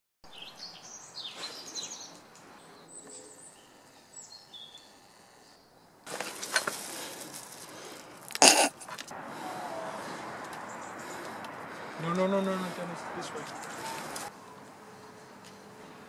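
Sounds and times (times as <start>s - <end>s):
small birds chirping: 0.3s - 16.0s.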